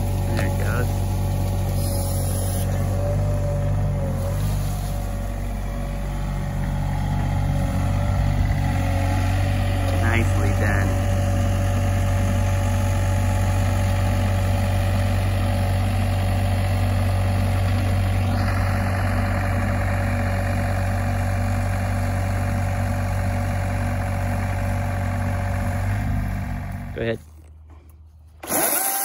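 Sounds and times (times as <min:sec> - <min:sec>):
excavator diesel engine running: 0:00.0 - 0:27.2.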